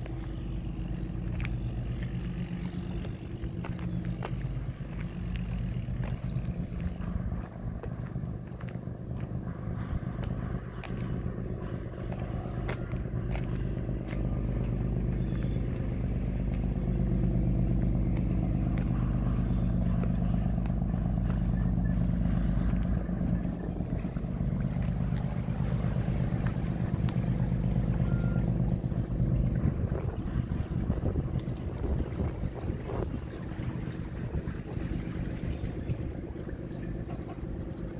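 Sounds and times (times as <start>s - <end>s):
large engine humming: 0.0s - 37.9s.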